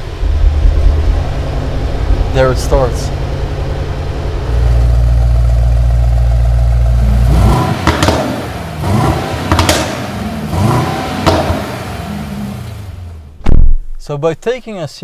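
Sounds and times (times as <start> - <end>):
car engine deep idle drone: 0.0 - 13.7.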